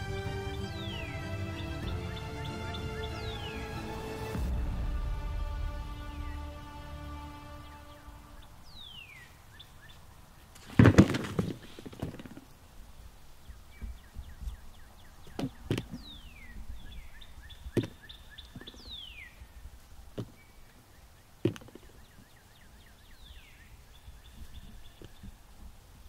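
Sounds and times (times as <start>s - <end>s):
songbirds singing: 0.0s - 4.5s, 5.7s - 26.0s.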